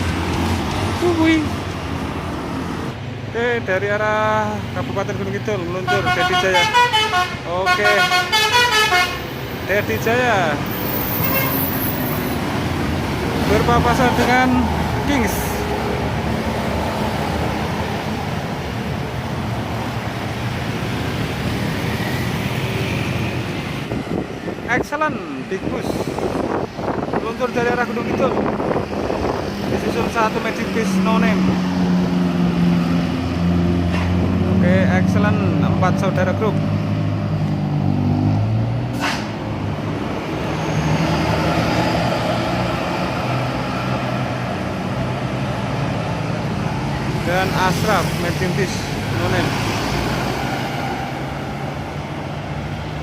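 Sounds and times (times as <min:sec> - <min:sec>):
buses passing on road: 0:00.0 - 0:53.0.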